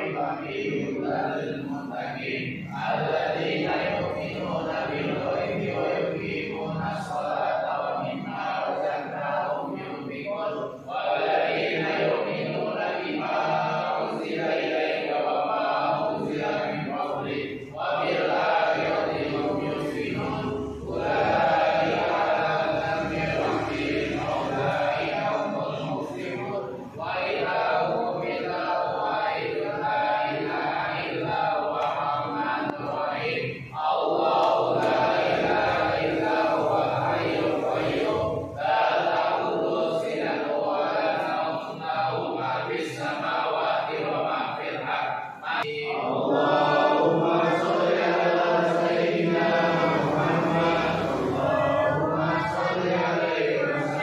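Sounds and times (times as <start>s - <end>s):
men chanting prayers in unison: 0.0s - 54.0s.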